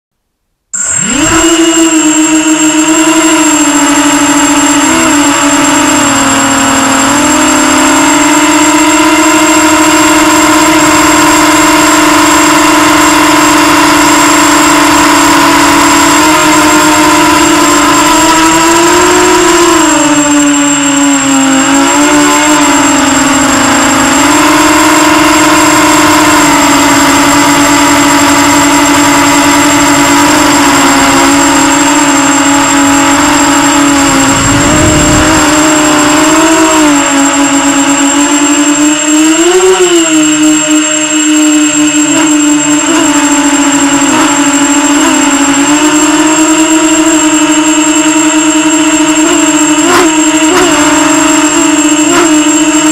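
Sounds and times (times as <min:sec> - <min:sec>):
drone motors whining: 0:00.8 - 0:52.9
high-pitched tone: 0:00.8 - 0:52.9.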